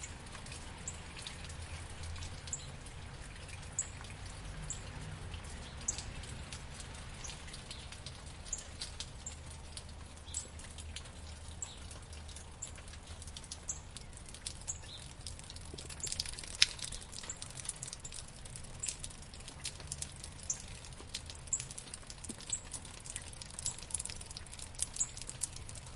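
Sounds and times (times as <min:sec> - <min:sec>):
raindrops pattering on hard surfaces: 0:00.0 - 0:25.9.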